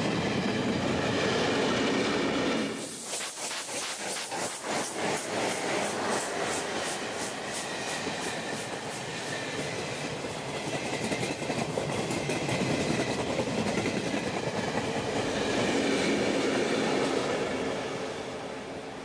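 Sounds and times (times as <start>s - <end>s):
train wheels clicking over rail joints: 0.0s - 17.2s
train running noise: 0.0s - 19.0s.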